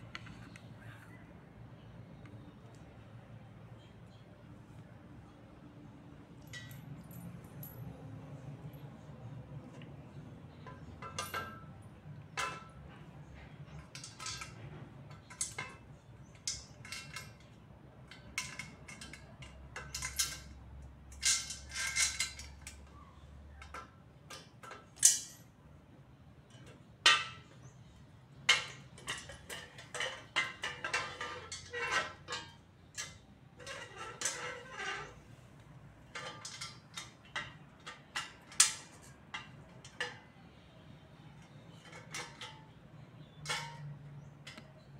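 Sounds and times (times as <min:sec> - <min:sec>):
metal tubes clinking and knocking: 0:06.2 - 0:25.5, 0:26.4 - 0:44.9.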